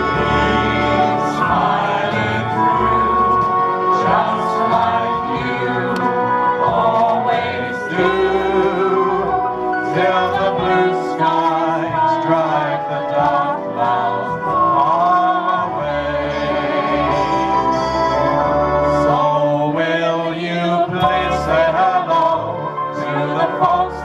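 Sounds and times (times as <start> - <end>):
group singing with accompaniment: 0.0 - 24.0.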